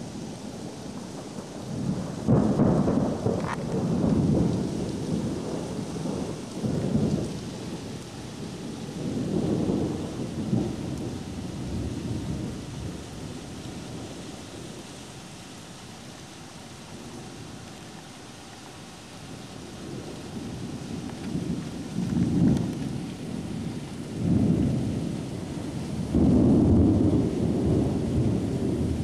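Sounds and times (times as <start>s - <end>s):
thunder rumbling: 0.0s - 15.0s, 19.4s - 29.0s
rain hissing: 0.0s - 29.0s.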